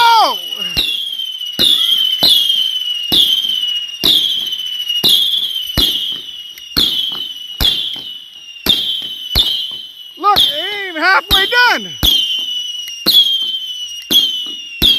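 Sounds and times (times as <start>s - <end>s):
firework cake reports: 0.0s - 14.9s.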